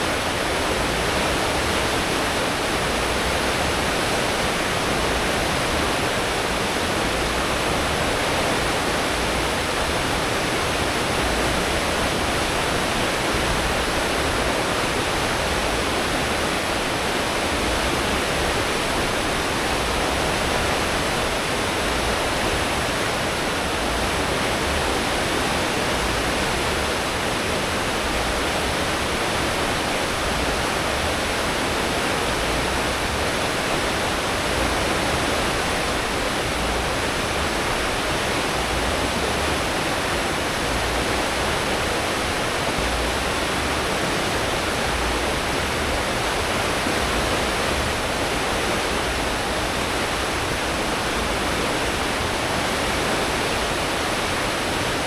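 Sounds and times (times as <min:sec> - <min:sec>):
rushing white water: 0:00.0 - 0:55.0.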